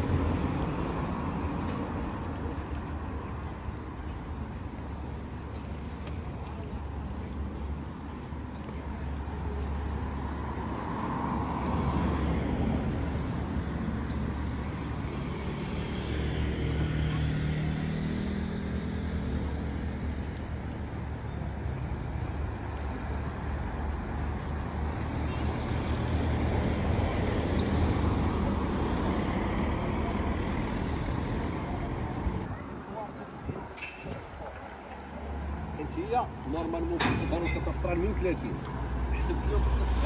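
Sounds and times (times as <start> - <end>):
cars passing: 0.0 - 40.0
low traffic rumble: 0.0 - 40.0.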